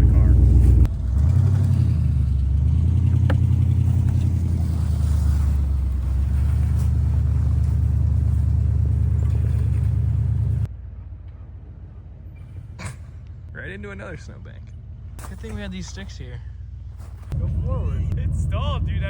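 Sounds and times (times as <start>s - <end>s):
car engine running at low revs: 0.0s - 10.7s, 14.2s - 19.0s.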